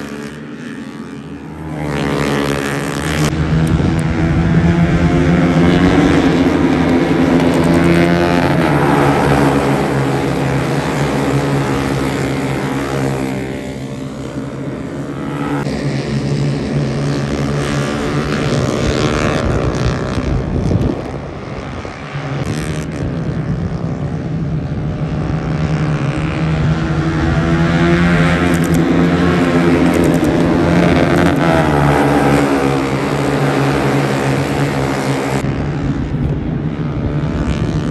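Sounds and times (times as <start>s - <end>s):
motorcycle passing by: 0.0s - 37.9s
racing motorcycle engines: 0.0s - 37.9s.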